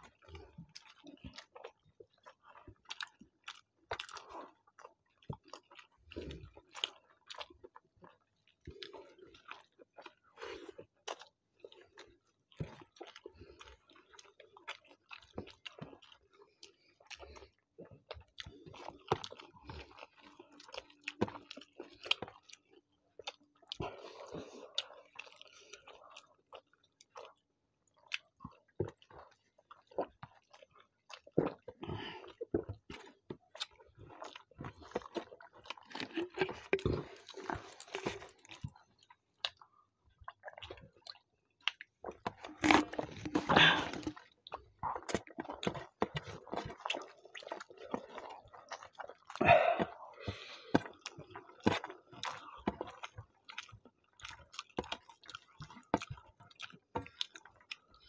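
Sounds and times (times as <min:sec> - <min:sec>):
chewing and wet mouth clicks: 0:00.1 - 0:10.2, 0:10.8 - 0:58.0.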